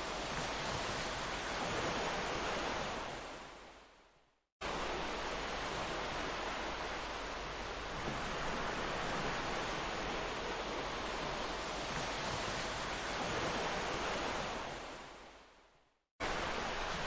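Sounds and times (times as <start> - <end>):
ocean waves on a beach: 0.0 - 17.0.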